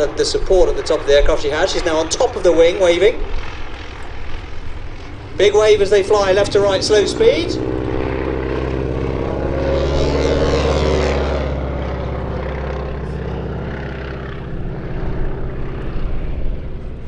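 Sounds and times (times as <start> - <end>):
biplane engine flying past: 0.0 - 17.0.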